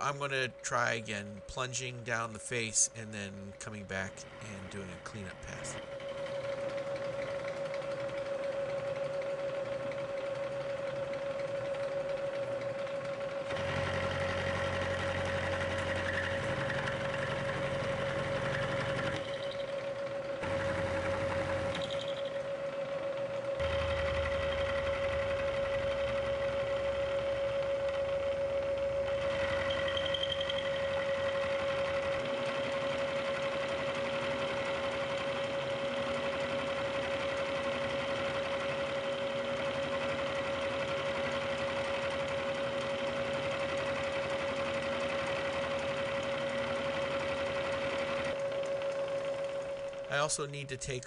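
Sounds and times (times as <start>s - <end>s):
milling machine cutting steel: 0.0s - 50.8s.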